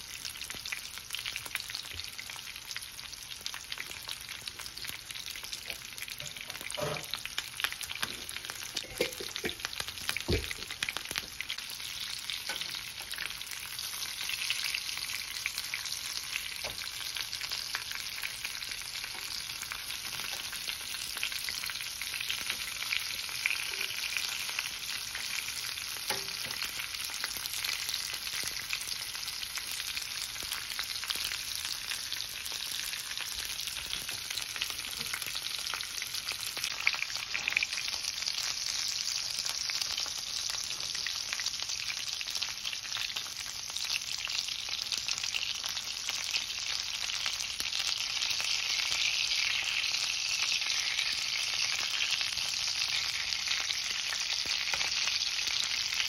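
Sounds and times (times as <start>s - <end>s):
steaks sizzling in a frying pan: 0.0s - 56.0s.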